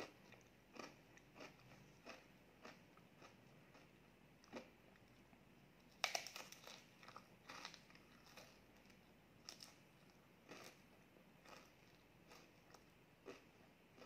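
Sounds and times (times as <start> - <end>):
crunchy chewing: 0.0 - 5.2, 6.0 - 14.0.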